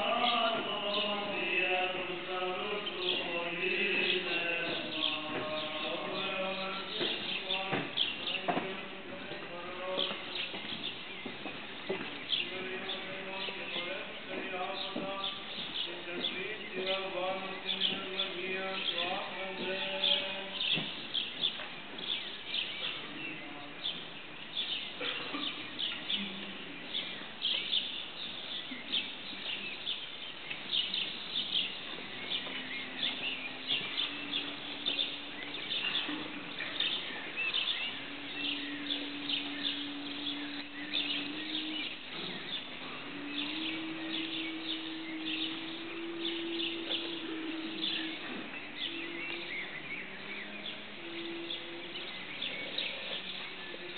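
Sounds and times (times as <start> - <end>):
man chanting: 0.0 - 21.1, 22.7 - 24.0, 31.6 - 53.9
birds chirping: 0.0 - 53.9.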